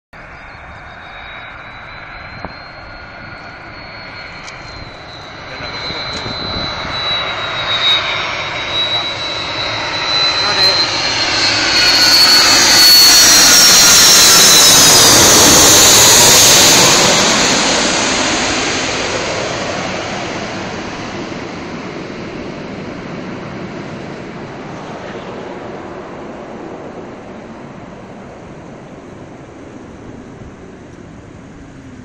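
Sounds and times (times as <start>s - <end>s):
jet airliner passing overhead: 0.2s - 32.0s
jet engine whine: 0.2s - 32.0s.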